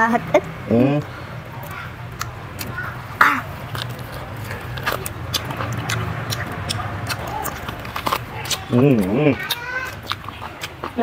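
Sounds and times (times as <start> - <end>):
people chewing with mouth clicks: 0.4 - 11.0.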